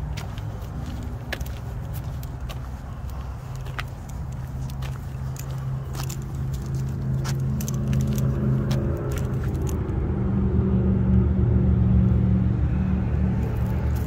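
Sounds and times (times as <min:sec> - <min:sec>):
vehicle engine approaching: 0:00.0 - 0:14.0.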